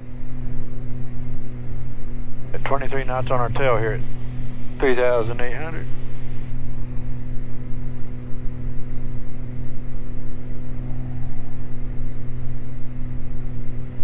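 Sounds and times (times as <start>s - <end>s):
piston aircraft engines droning: 0.0s - 14.0s.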